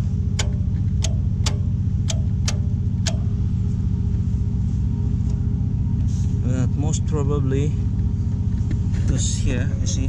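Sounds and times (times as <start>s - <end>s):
diesel machinery drone: 0.0s - 10.0s.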